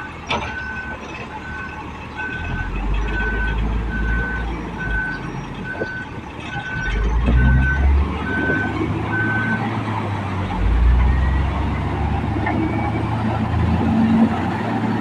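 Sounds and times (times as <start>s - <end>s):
truck reversing alarm beeping: 0.0s - 15.0s.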